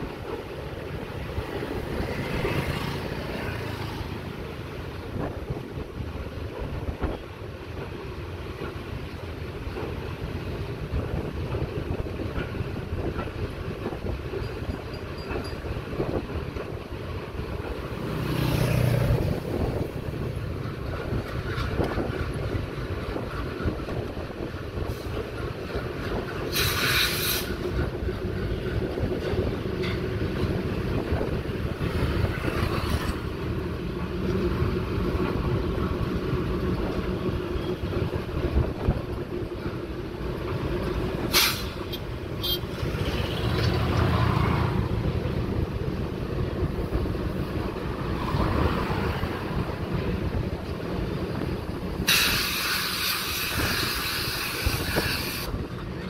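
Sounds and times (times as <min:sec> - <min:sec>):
diesel locomotive engine throbbing: 0:00.0 - 0:56.0
train clanking on rail bridge: 0:00.0 - 0:56.0.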